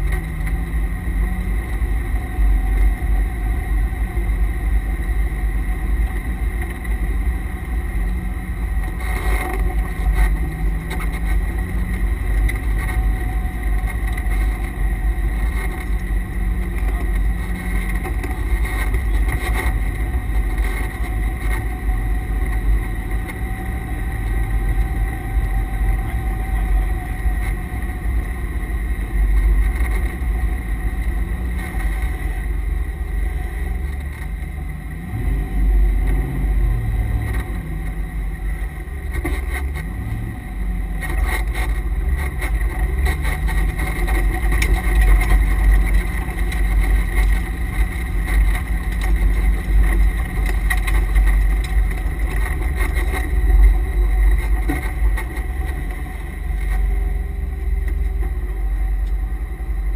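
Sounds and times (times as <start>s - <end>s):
car engine from inside cabin: 0.0s - 59.9s
transmission whine: 0.0s - 59.9s.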